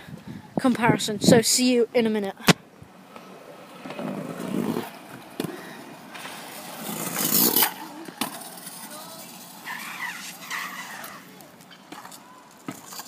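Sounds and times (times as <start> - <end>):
scooter wheels rolling on paving: 1.4 - 13.0.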